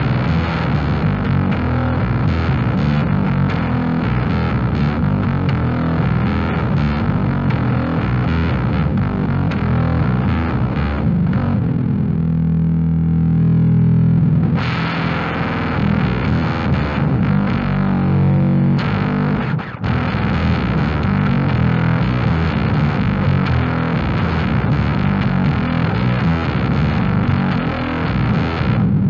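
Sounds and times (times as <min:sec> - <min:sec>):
bass guitar with fuzz distortion: 0:00.0 - 0:29.0.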